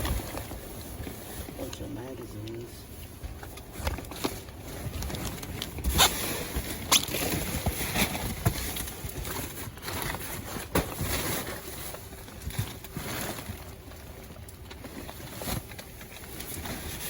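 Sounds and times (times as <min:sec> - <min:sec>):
trash rustling and shifting: 0:00.0 - 0:17.0.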